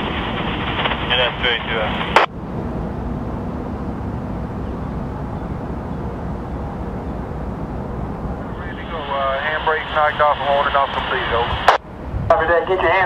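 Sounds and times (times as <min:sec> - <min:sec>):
train rumbling by: 0:00.0 - 0:13.0.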